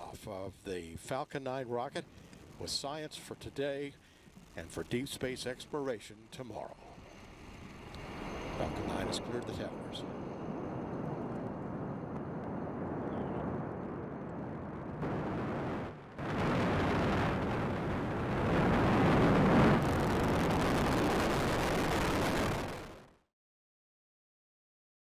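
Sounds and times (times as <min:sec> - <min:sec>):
rocket engines thundering: 0:02.0 - 0:23.1.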